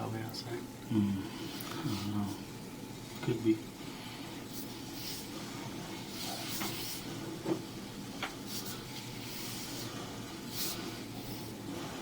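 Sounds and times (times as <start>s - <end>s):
low rumble and hiss in drain: 0.0s - 12.0s.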